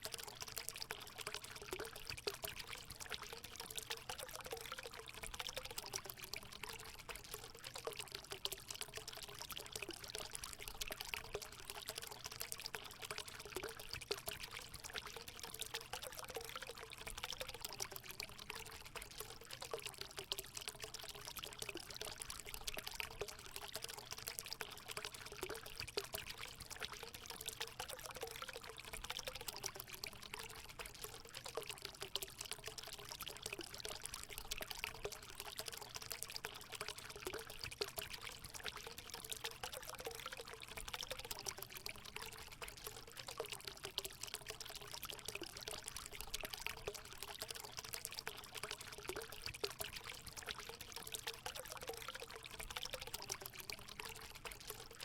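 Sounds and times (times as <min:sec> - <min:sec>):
water pouring into a pool: 0:00.0 - 0:55.0.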